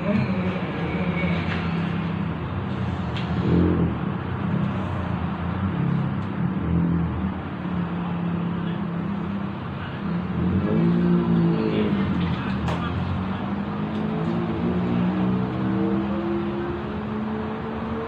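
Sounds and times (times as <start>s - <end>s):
constant noise: 0.0s - 18.0s.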